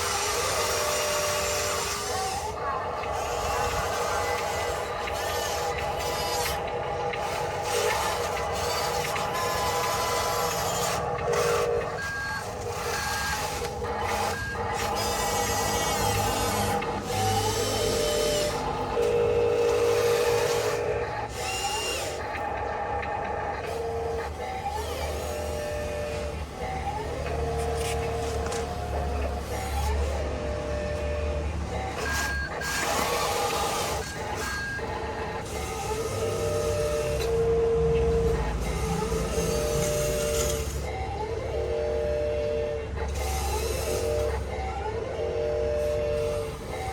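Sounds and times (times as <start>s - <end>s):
small electric motors whining: 0.0s - 46.9s
synthesized truck engine drone: 0.0s - 46.9s.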